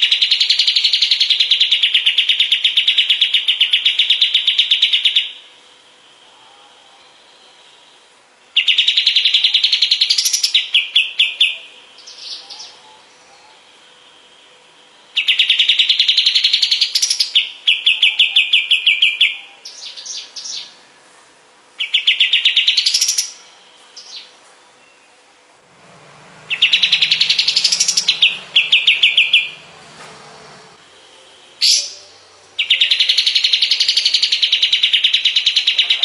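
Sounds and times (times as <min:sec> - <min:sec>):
songbird trilling: 0:00.0 - 0:05.5, 0:07.0 - 0:20.8, 0:21.8 - 0:25.2, 0:26.4 - 0:29.9, 0:31.6 - 0:36.0.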